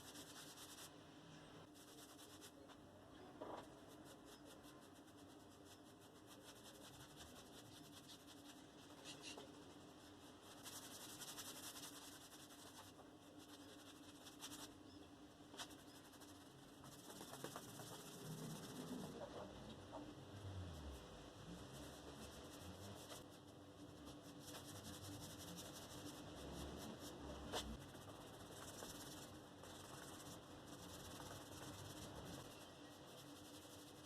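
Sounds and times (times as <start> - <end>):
dry scratching and rubbing: 0.0 - 0.9, 1.6 - 2.6, 3.6 - 14.8, 15.5 - 34.0.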